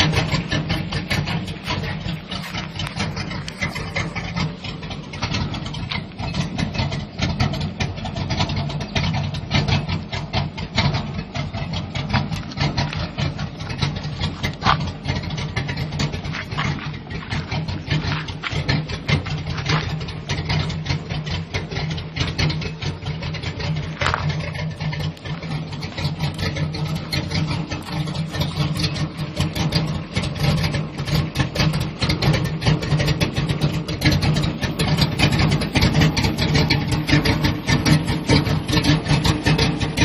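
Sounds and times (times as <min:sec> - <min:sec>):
pickup truck engine idling roughly: 0:00.0 - 0:40.0.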